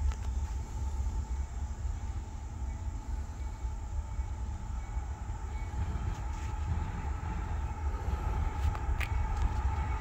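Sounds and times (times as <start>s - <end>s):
distant freight train rumble: 0.0s - 10.0s.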